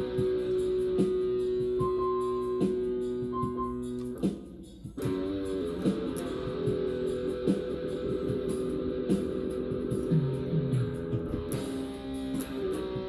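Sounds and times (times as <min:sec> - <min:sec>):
guitar-led instrumental music: 0:00.0 - 0:13.0.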